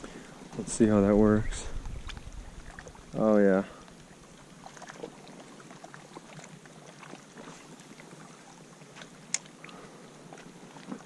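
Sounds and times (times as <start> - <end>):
small waves lapping on rocks: 1.8 - 11.0.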